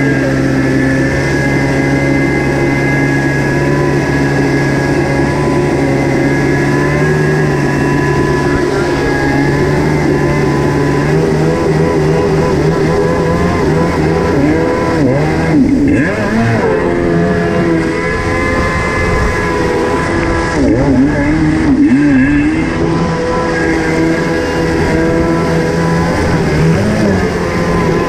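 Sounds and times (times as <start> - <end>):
jet ski engine running: 0.0 - 28.0
water rushing past hull: 0.0 - 28.0.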